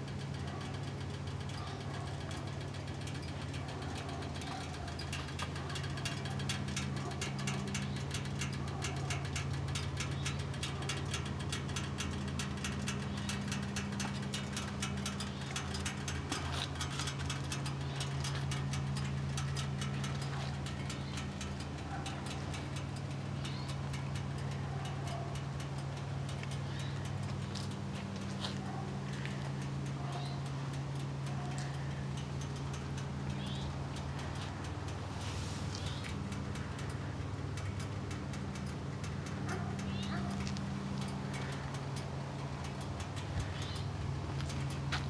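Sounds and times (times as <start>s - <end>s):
fast mechanical ticking: 0.0s - 45.0s
motorcycle engine idling: 0.0s - 45.0s.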